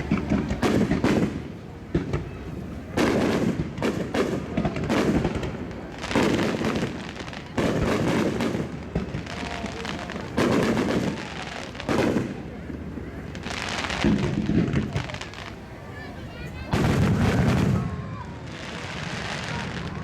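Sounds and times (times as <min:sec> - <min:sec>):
fireworks bursting with bangs: 0:00.0 - 0:20.0
fireworks crackling and popping: 0:00.0 - 0:20.0.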